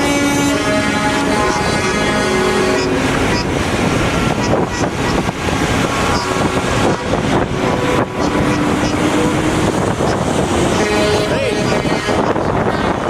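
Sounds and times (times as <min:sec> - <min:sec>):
heavy trucks driving past: 0:00.0 - 0:13.0
wind buffeting microphone: 0:00.0 - 0:13.0.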